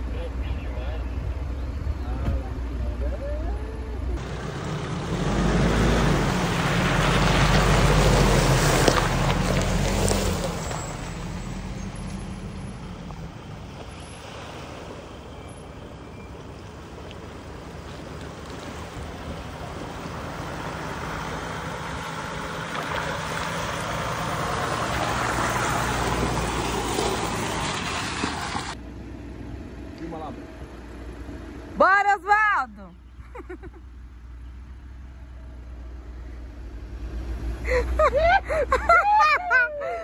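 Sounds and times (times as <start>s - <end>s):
off-road vehicle driving: 0.0s - 40.0s.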